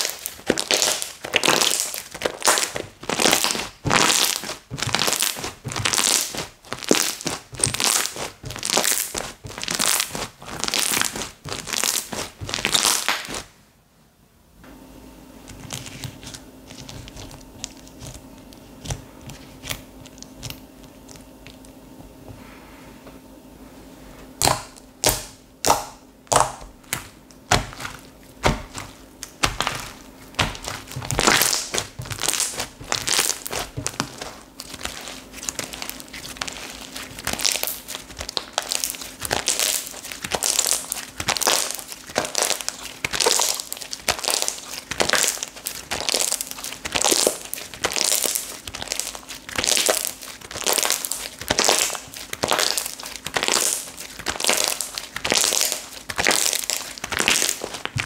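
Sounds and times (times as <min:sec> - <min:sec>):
crackly slime squeezes: 0:00.0 - 0:13.5, 0:24.4 - 0:58.0
slime popping: 0:00.0 - 0:13.5, 0:24.4 - 0:58.0.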